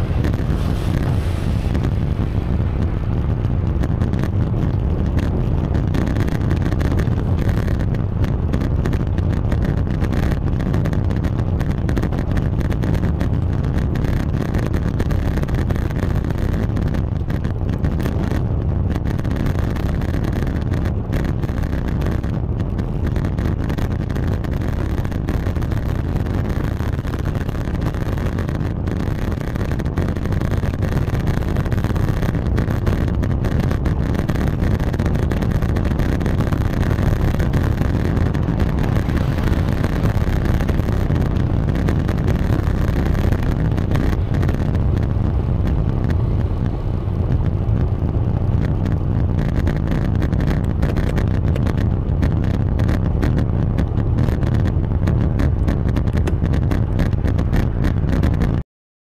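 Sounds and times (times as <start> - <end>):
wind rumble on microphone: 0.0 - 58.6.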